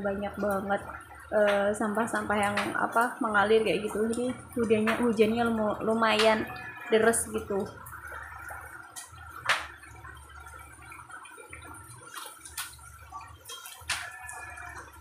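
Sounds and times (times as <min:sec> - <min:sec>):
sharp water drips: 0:00.0 - 0:15.0
steady rain: 0:00.0 - 0:15.0.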